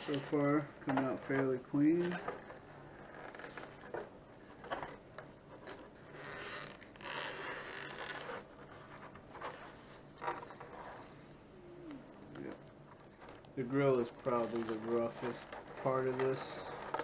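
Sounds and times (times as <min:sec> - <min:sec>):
plastic film peeling and crackling: 0:00.0 - 0:11.2, 0:11.8 - 0:17.0.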